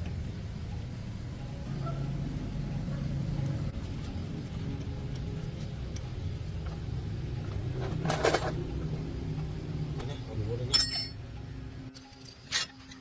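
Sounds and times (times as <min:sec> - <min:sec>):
engine running steadily: 0:00.0 - 0:12.4.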